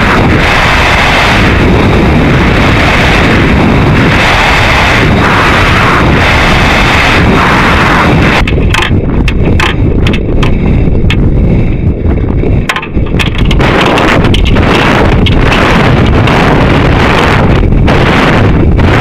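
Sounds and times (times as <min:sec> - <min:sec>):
low rumble with crackles: 0:00.0 - 0:19.0
rocket in-flight wind rushing: 0:00.0 - 0:19.0.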